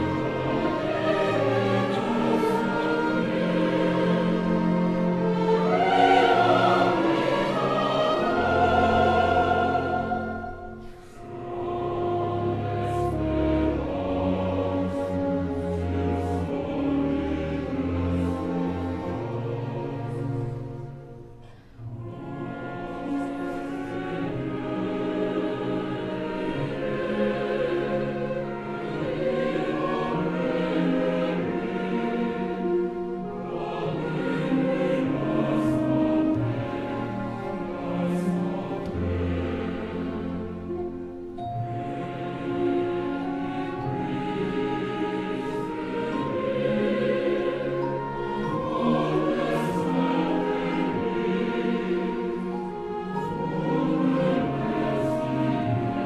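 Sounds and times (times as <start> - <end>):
opera chorus singing: 0.0 - 56.0
orchestra playing: 0.0 - 56.0.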